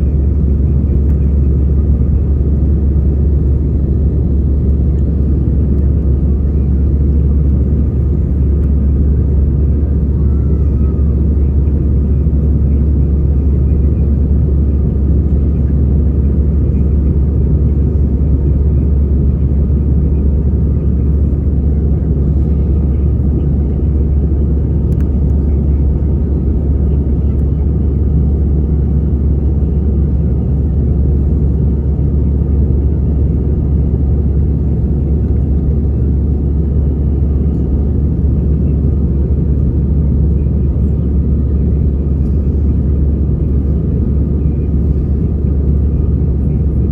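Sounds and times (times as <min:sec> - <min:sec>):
airplane cabin engine rumble: 0:00.0 - 0:46.9.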